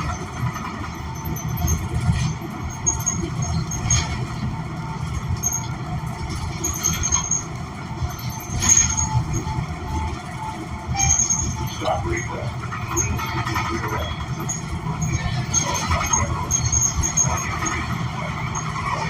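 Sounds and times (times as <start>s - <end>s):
bus engine low rumble: 0.0s - 19.0s.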